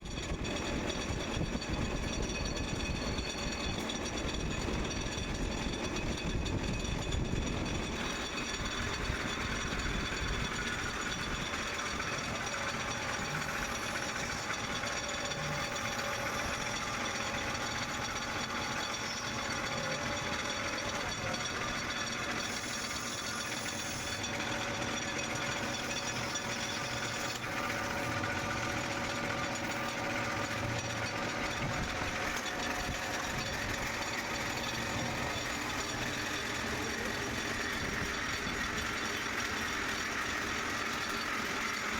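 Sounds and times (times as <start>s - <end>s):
lathe machine whine: 0.0s - 41.9s
mechanical rumble: 0.0s - 41.9s.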